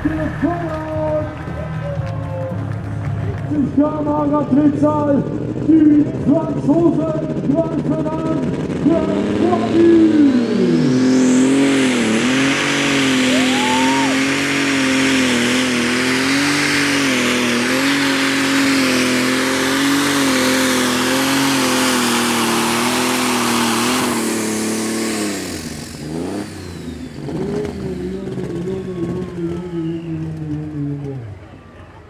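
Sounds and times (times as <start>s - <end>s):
tractor engine at high revs: 0.0s - 32.0s.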